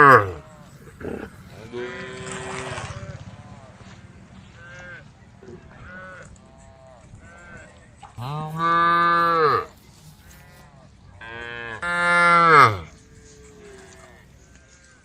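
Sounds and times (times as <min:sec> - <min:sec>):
cows mooing: 0:00.0 - 0:14.3.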